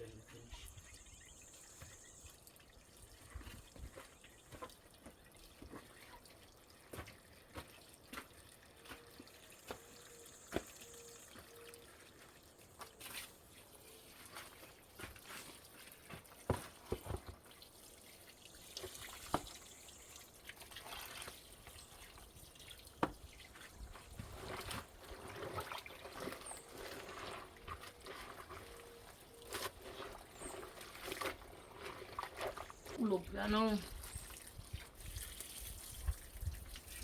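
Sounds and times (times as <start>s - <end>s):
water trickling and dripping: 0.0s - 37.0s.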